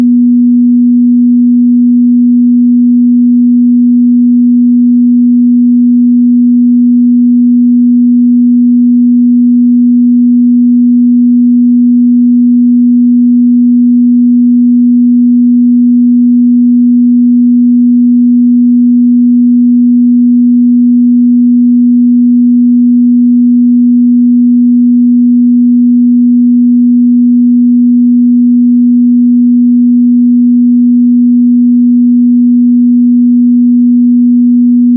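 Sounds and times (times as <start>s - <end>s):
sine-wave test tone: 0.0s - 34.9s.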